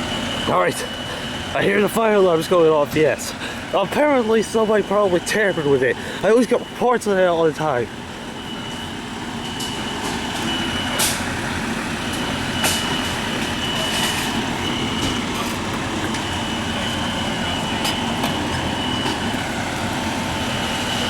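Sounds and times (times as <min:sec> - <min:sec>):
fire alarm tone: 0:00.0 - 0:21.0.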